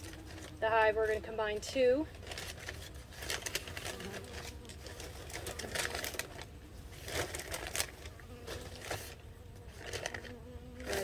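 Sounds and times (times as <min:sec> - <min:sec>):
honey bees humming: 0:00.0 - 0:11.0
newspaper rustling and crinkling: 0:00.0 - 0:11.0.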